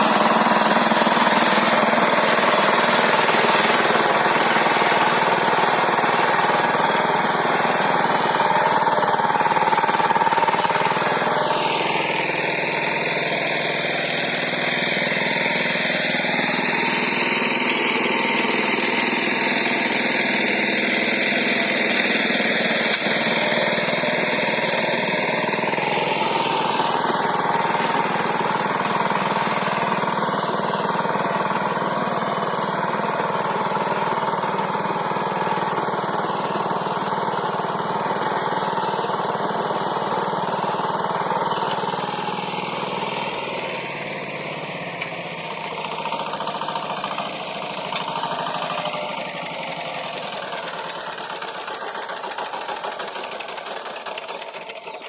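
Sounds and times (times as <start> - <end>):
rotary tiller in soil: 0.0 - 55.0
tractor engine running under load: 0.0 - 55.0.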